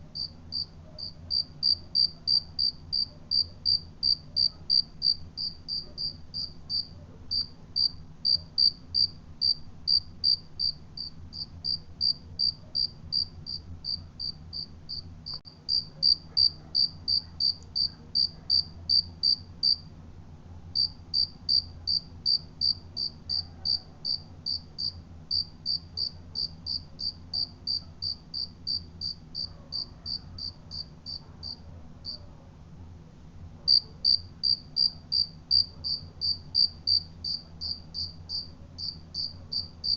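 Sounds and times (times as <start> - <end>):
cricket chirping: 0.2 - 19.8, 20.8 - 32.2, 33.7 - 39.9.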